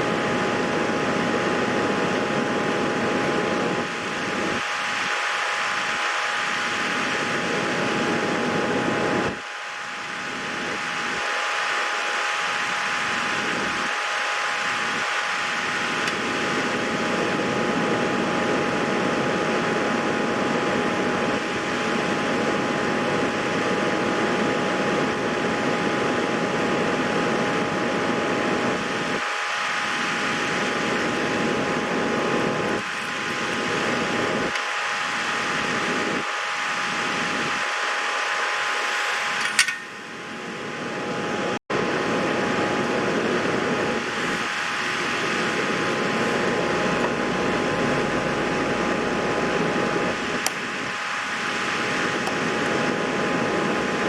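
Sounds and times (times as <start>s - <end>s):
small fan whirring: 0.0s - 54.0s.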